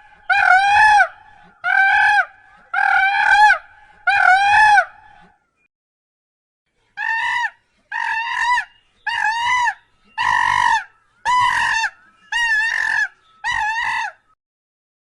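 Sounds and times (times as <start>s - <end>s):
fowl calling: 0.0s - 5.3s, 7.0s - 14.3s.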